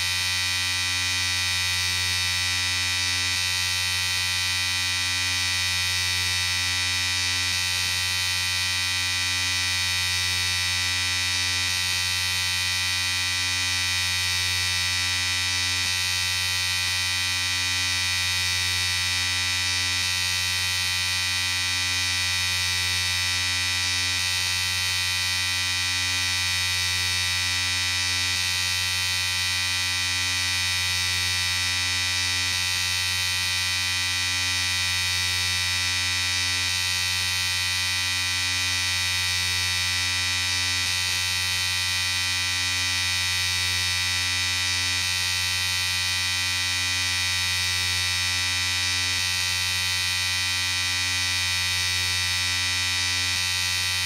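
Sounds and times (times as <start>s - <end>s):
electric shaver buzzing: 0.0s - 54.0s.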